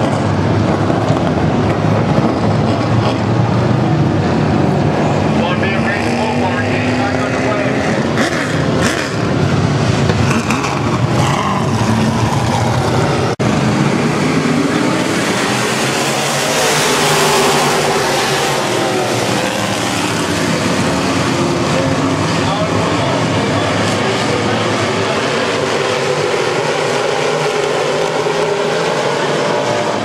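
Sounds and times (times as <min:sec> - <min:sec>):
stock car engines racing: 0:00.0 - 0:30.0.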